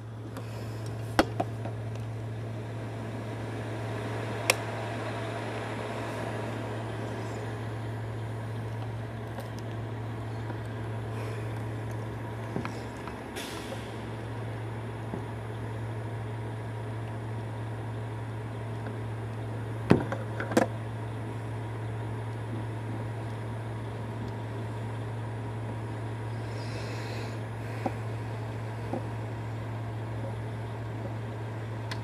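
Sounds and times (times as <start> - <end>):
garbage truck idling: 0.0 - 32.0.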